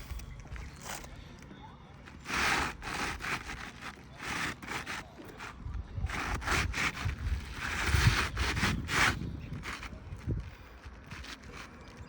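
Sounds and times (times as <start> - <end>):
roof shingles scraping: 2.0 - 12.0.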